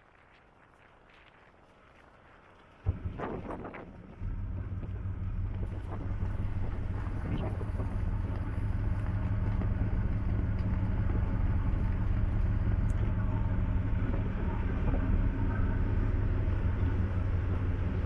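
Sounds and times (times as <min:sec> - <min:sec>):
ferry engines droning: 0:02.8 - 0:18.0.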